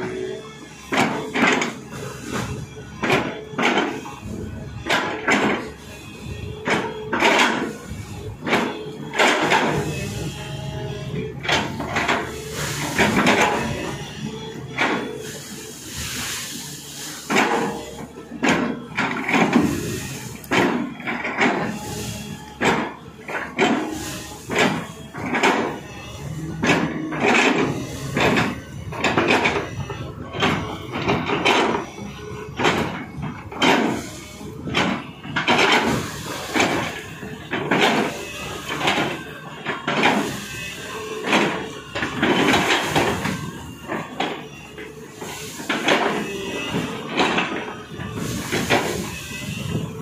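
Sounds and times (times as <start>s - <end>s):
excavator bucket scraping rocky soil: 0.0s - 50.0s
excavator engine running: 0.0s - 50.0s.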